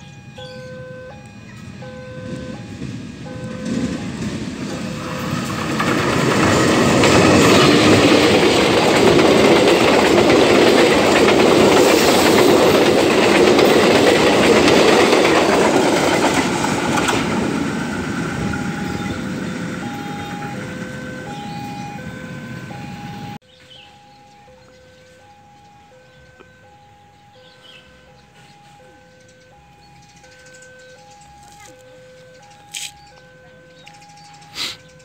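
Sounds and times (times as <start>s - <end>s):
diesel passenger train passing: 0.0s - 35.0s
train wheels on rails: 1.4s - 23.4s, 26.4s - 35.0s.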